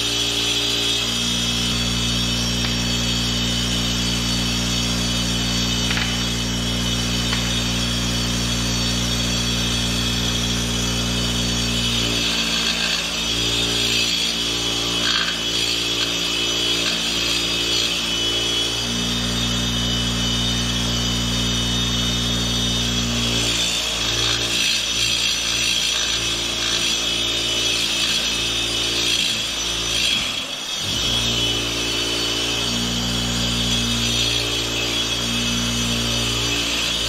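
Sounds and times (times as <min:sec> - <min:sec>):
bench grinder motor humming: 0:00.0 - 0:37.0.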